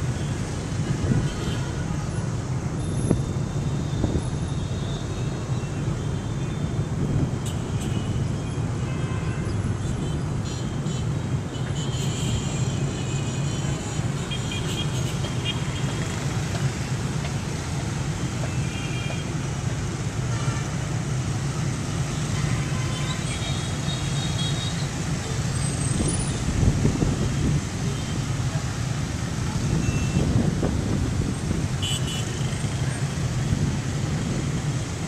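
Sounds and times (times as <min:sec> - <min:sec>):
engine rumble of traffic: 0:00.0 - 0:35.0.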